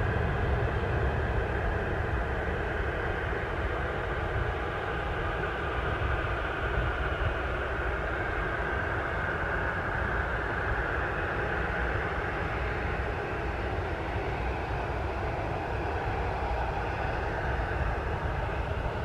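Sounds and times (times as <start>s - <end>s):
jet engine roaring at takeoff: 0.0s - 19.0s.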